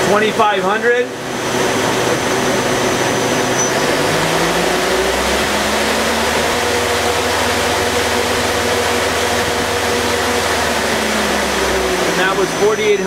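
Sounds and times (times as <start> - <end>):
lathe spindle whirring: 0.0 - 13.0.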